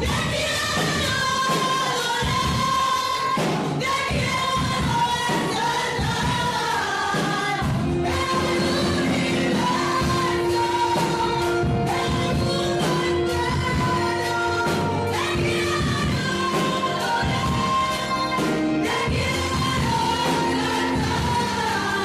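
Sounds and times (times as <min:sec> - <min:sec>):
instrumental accompaniment: 0:00.0 - 0:22.0
person singing: 0:00.0 - 0:22.0.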